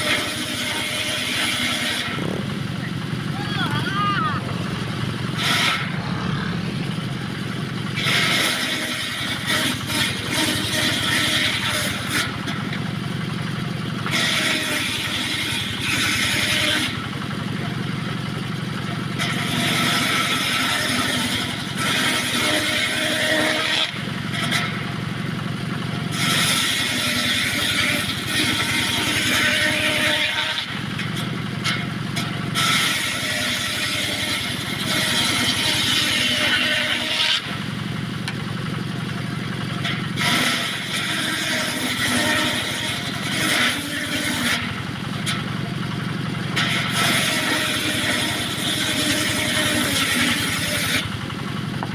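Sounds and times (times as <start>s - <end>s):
circular saw cutting wood: 0.0s - 51.9s
engine hum: 0.0s - 51.9s.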